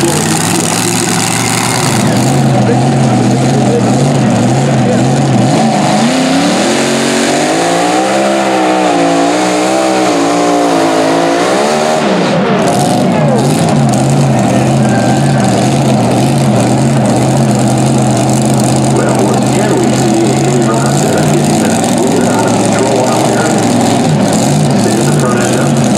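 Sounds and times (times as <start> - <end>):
tractor racing engine revving: 0.0 - 25.9.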